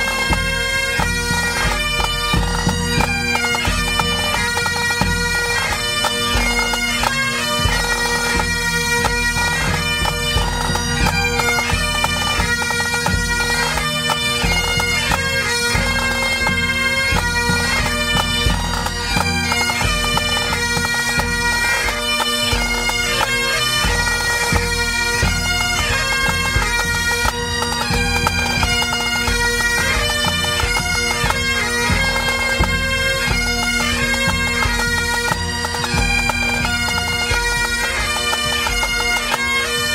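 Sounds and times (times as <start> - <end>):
bagpipes playing melody: 0.0 - 39.9
drums beating: 0.0 - 39.9.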